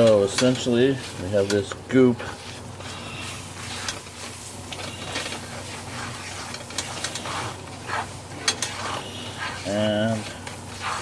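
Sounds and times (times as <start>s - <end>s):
faint sizzle: 0.0s - 11.0s
whisk scraping a skillet: 0.0s - 11.0s.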